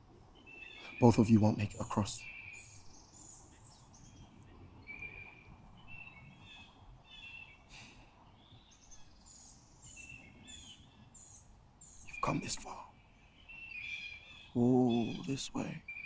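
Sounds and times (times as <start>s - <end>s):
steady background hiss: 0.0s - 16.0s
bird chirps: 0.4s - 16.0s.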